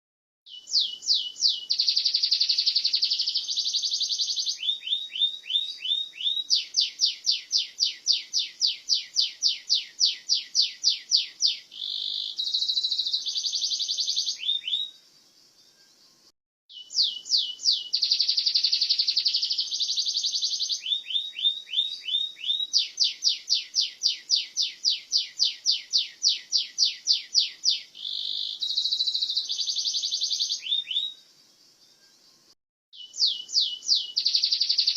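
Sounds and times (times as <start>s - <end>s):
canary singing trills: 0.5s - 15.0s, 16.7s - 31.3s, 33.0s - 34.9s.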